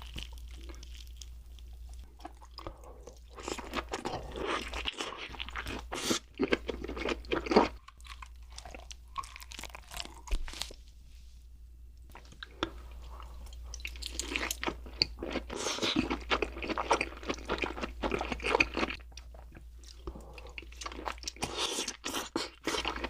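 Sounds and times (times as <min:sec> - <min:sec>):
chewing crunchy food: 0:00.0 - 0:10.8, 0:12.1 - 0:23.0.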